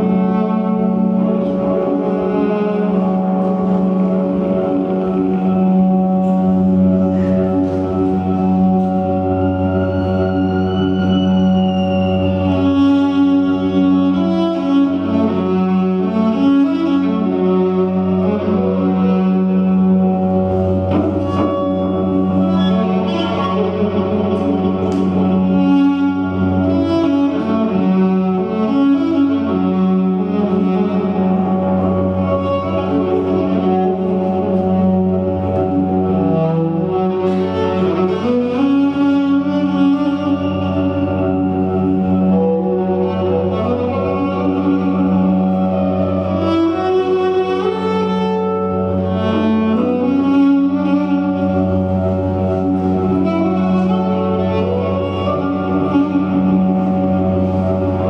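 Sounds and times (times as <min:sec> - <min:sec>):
bowed electric cello melody: 0:00.0 - 0:58.0
sustained low drone: 0:00.0 - 0:58.0.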